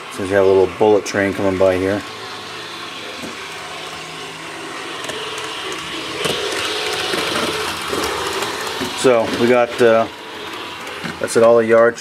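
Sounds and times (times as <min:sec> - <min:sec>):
model train motor whir: 0:00.0 - 0:12.0
wheels on rails: 0:00.0 - 0:12.0.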